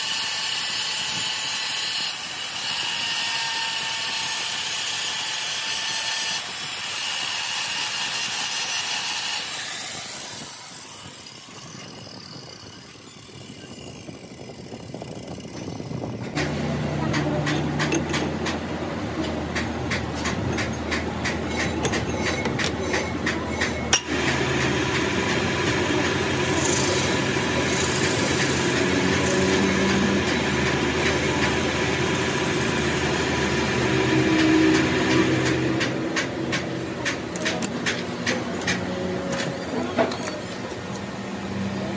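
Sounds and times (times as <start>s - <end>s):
file against spinning metal: 0.0s - 16.4s, 19.6s - 38.8s
angle grinder grinding steel: 0.0s - 18.3s, 20.2s - 36.1s
metal lathe humming: 0.0s - 37.0s.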